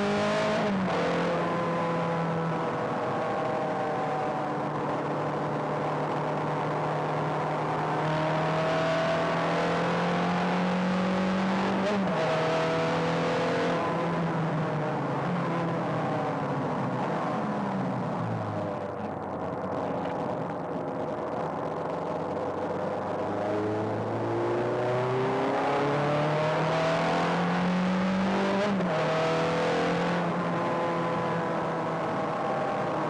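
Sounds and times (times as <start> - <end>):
road and wind noise: 0.0 - 33.0
sports car engine: 0.0 - 33.0.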